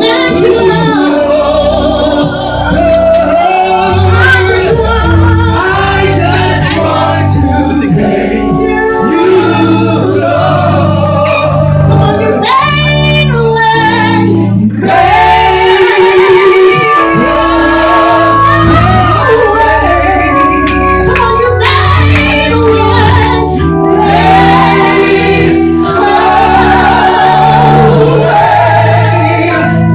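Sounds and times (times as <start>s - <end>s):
gospel worship singing: 0.0s - 29.9s
steady bass line: 0.0s - 29.9s.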